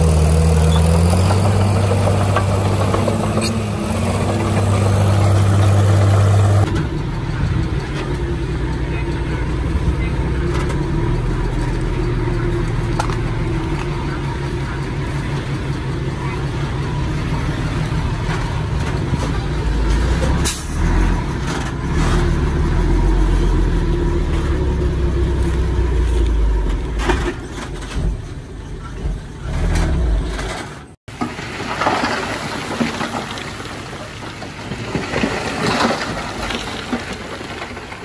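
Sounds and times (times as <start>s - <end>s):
bulldozer diesel engine drone: 0.0s - 30.9s.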